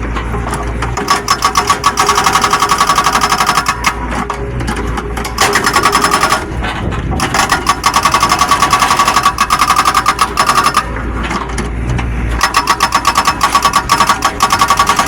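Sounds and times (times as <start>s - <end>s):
excavator engine humming: 0.0s - 15.0s
hydraulic breaker hammering: 0.0s - 15.0s.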